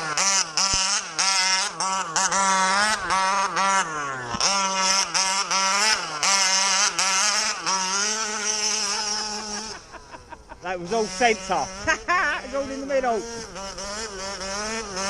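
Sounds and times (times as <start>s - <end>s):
small two-stroke engine revving: 0.0s - 15.0s.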